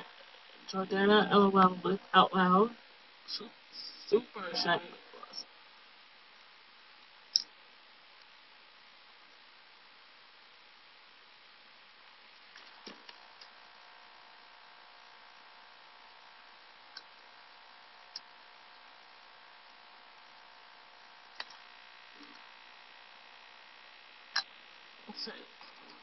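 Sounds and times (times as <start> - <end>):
recording hiss and hum: 0.0 - 26.0.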